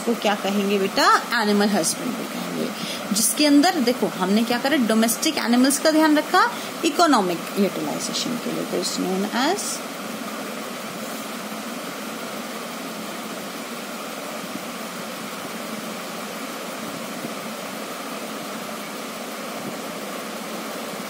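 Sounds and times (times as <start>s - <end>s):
even hiss: 0.0s - 21.0s
faint steady hum: 0.0s - 21.0s.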